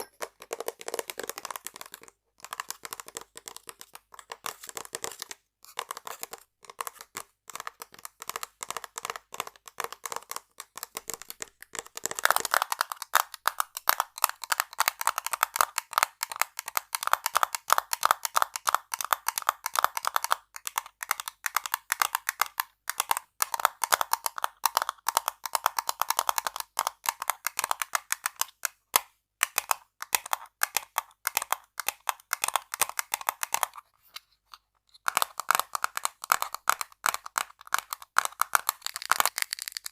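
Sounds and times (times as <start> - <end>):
rapid tapping on hard objects: 0.0 - 33.8, 35.0 - 39.9.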